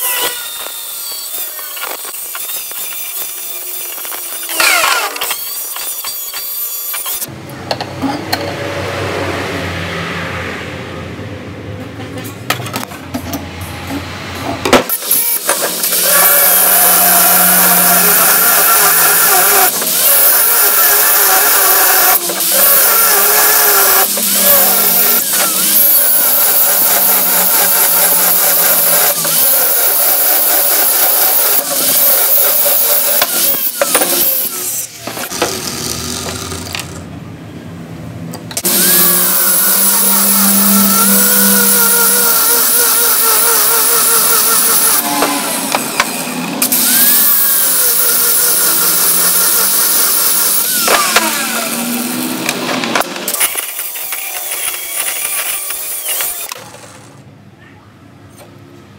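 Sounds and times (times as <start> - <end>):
angle grinder cutting steel: 0.0 - 7.3, 14.8 - 37.0, 38.6 - 57.1.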